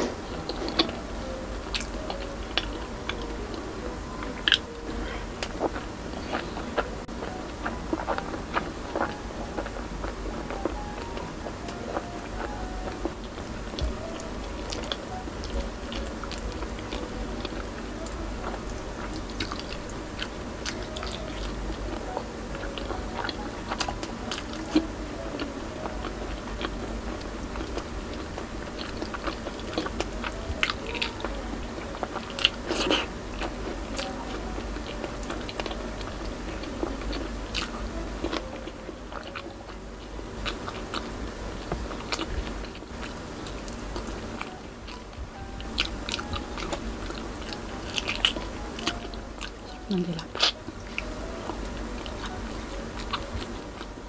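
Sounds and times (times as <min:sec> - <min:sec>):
steady low hum: 0:00.0 - 0:54.0
person chewing with wet smacks: 0:04.2 - 0:54.0.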